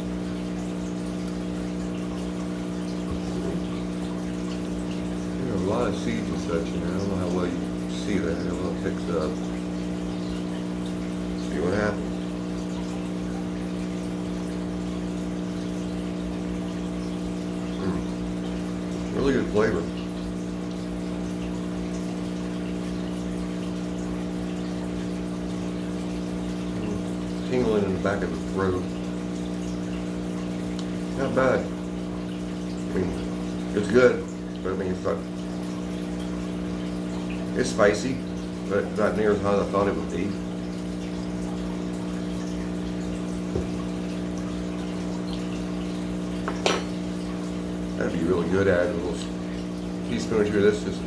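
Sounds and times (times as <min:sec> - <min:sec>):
aquarium filter pump hum: 0:00.0 - 0:51.0
moving water: 0:00.0 - 0:51.0.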